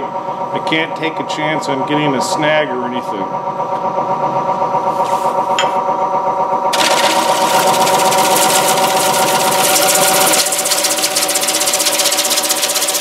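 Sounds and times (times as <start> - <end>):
lathe motor whine: 0.0 - 13.0.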